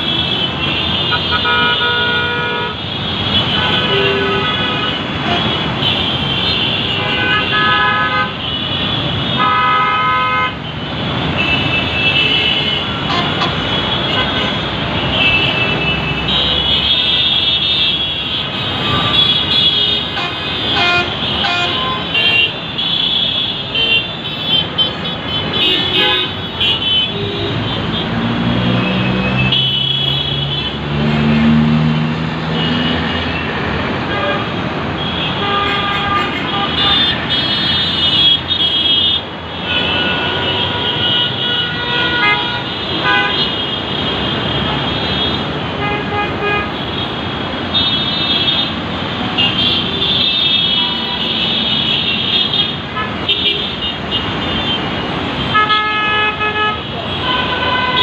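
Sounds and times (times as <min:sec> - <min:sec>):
vehicle horns honking: 0:00.0 - 0:30.9, 0:32.5 - 0:58.0
traffic engines running: 0:00.0 - 0:58.0.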